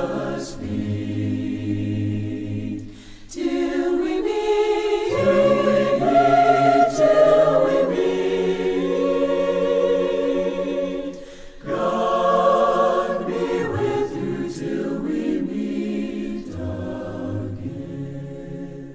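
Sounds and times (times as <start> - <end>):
choir singing unaccompanied: 0.0 - 18.9.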